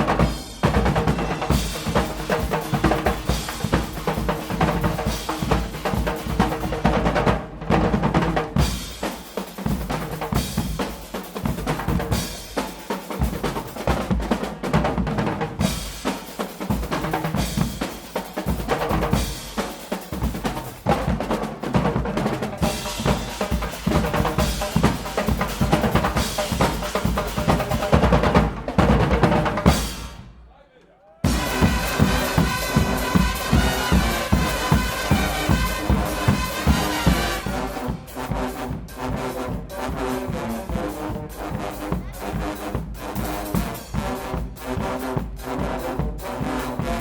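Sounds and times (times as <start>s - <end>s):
bass drums: 0.0s - 12.6s, 20.2s - 30.4s, 31.3s - 47.0s
snare drums: 0.0s - 47.0s.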